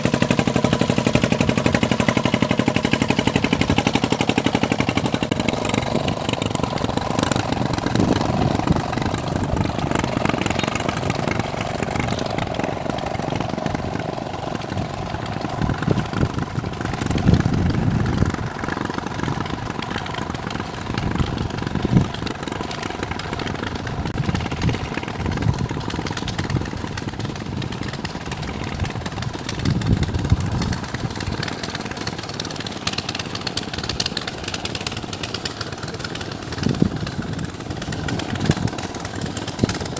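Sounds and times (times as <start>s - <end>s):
small boat engine chugging: 0.0s - 39.9s.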